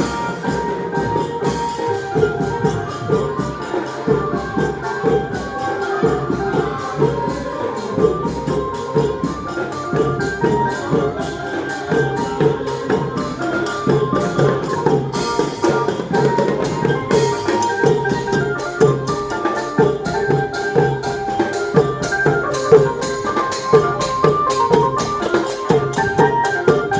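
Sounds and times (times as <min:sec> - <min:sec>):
drums: 0:00.0 - 0:26.9
jingling hand percussion: 0:00.0 - 0:26.9.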